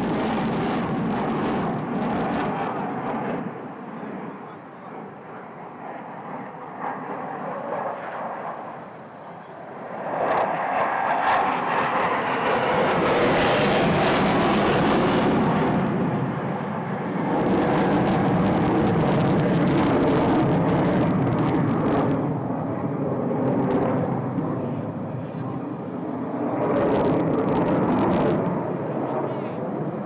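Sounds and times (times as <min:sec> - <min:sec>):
jet fighter engines roaring: 0:00.0 - 0:30.0.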